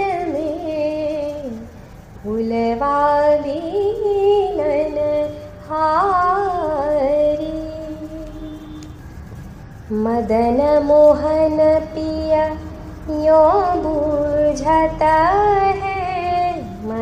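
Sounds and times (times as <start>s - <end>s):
woman singing devotional song: 0.0s - 9.0s, 9.8s - 17.0s.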